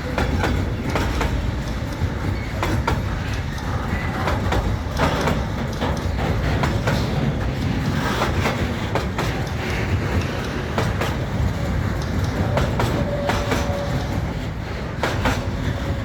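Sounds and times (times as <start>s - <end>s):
train rumbling: 0.0s - 16.0s
train wheels clicking over rail joints: 0.0s - 16.0s.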